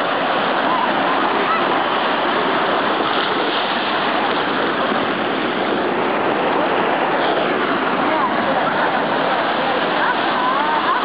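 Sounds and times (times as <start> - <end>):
sea surf washing in: 0.0 - 11.0.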